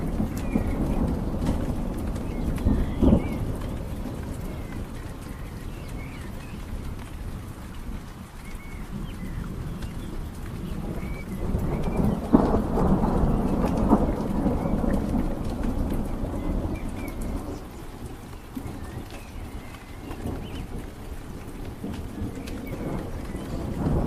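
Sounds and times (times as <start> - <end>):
distant thunder rumble: 0.0 - 24.0
rain hiss: 0.0 - 24.0.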